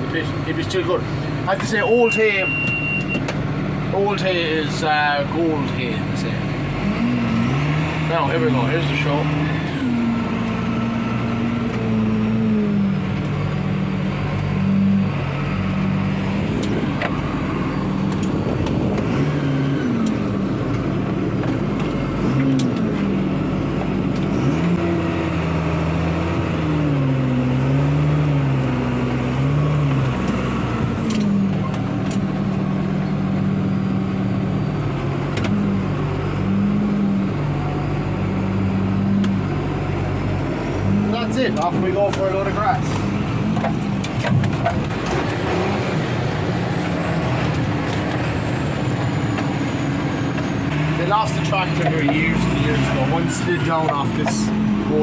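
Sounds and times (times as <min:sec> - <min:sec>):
tractor engine from inside cab: 0:00.0 - 0:55.0.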